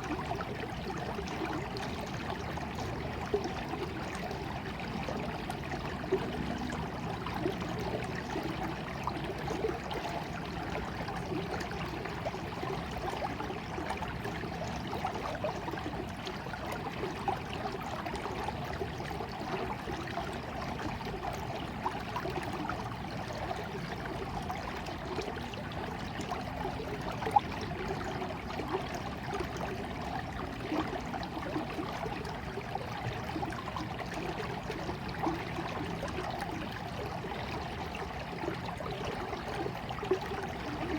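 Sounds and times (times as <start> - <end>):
stream trickling over stones: 0.0 - 40.9
water splashes: 0.0 - 40.9.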